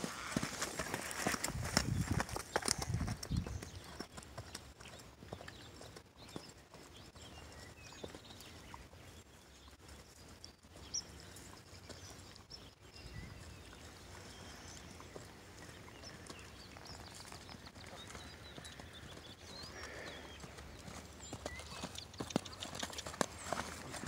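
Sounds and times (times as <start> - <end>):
hoofbeats on soft dirt: 0.0 - 24.0.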